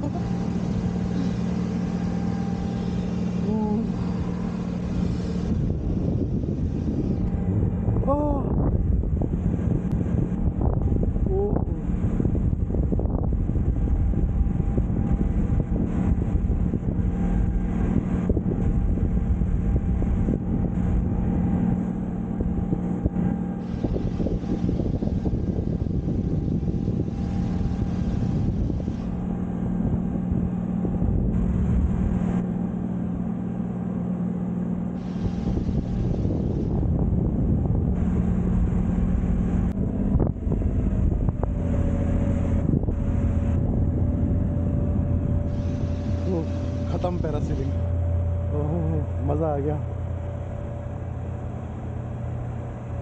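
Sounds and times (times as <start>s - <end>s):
steady low hum: 0.0s - 53.0s
wind buffeting microphone: 0.0s - 53.0s.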